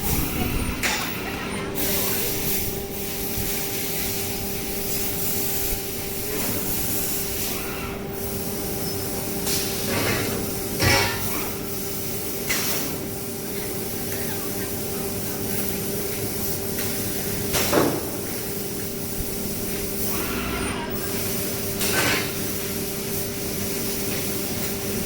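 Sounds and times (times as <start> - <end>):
laser cutting machine humming: 0.0 - 25.0
hiss: 1.8 - 25.0.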